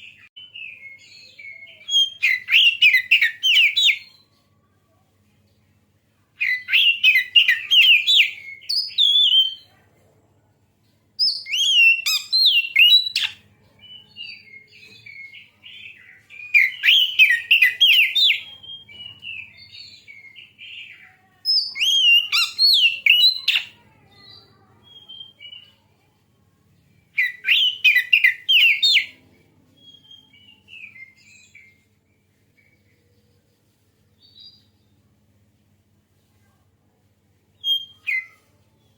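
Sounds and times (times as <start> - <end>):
quiet scattered bird notes: 0.0 - 38.9.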